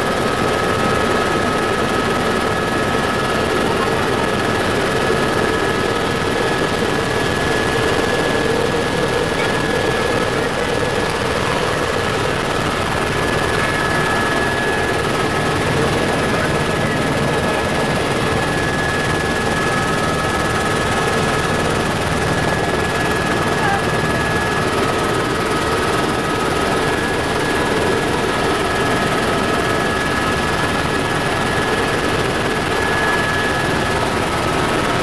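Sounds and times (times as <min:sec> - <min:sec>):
helicopter turbine and rotor: 0:00.0 - 0:35.0.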